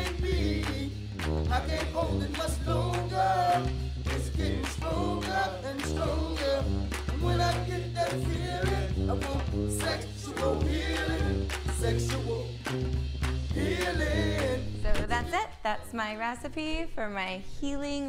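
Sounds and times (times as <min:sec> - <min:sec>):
song with singing voice: 0:00.0 - 0:12.8, 0:13.4 - 0:15.5.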